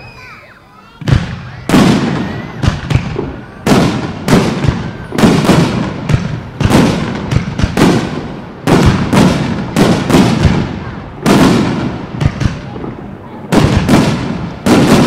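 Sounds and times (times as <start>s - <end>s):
firework shells booming: 0.8s - 15.0s.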